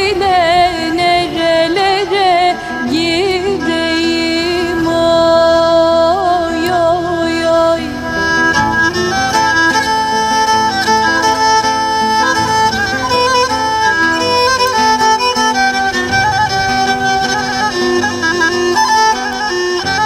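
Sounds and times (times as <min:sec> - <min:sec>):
bowed fiddle melody: 0:00.0 - 0:20.0.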